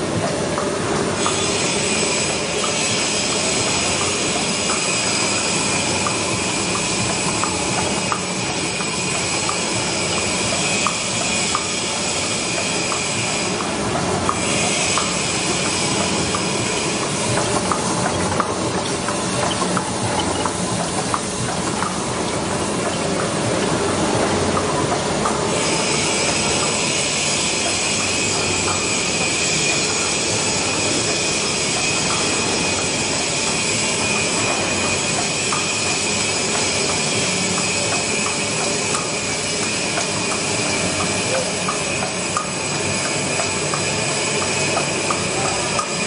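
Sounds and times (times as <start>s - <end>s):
machine clatter and hiss: 0.0s - 46.0s.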